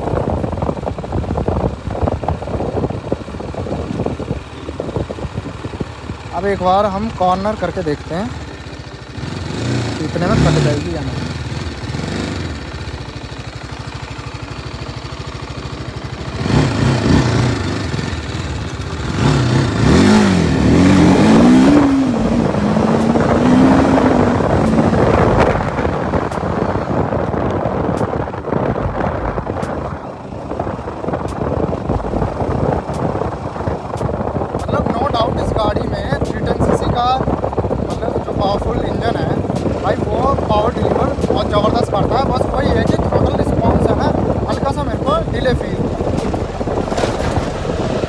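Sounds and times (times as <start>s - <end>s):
motorcycle engine revving: 0.0s - 48.0s
rushing wind: 0.0s - 48.0s.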